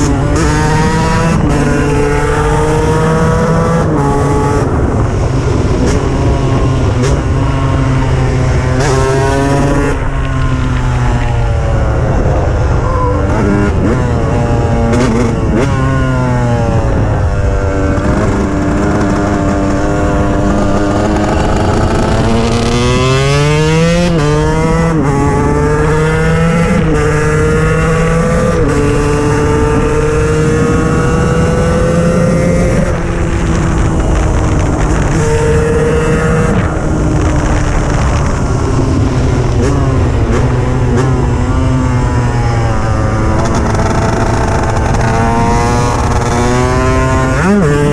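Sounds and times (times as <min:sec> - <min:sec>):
two-stroke motorcycle engine revving: 0:00.0 - 0:12.0, 0:12.8 - 0:47.9.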